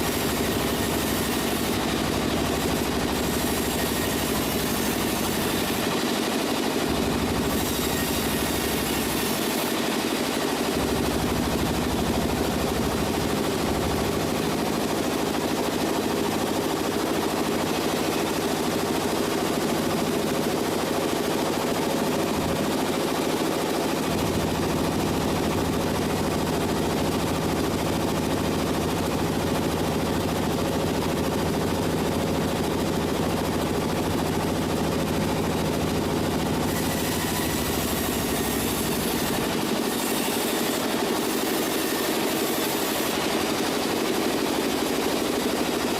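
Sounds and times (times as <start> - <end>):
sawmill machinery rattling: 0.0 - 45.9.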